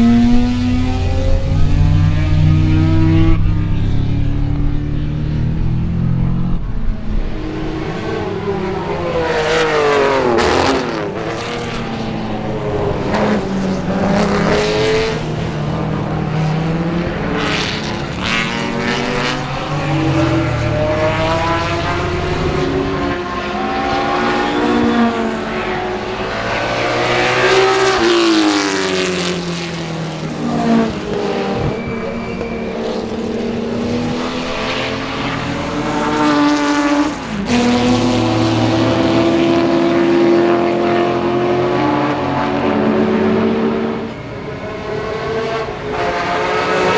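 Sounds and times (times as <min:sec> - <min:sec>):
race car engines passing: 0:00.0 - 0:46.9.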